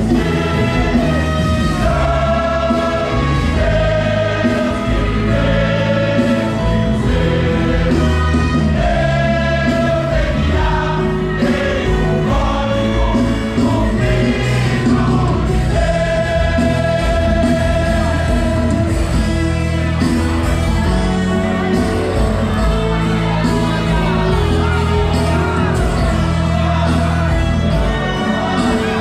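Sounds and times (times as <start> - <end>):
choir singing gospel: 0.0 - 29.0
low musical accompaniment: 0.0 - 29.0.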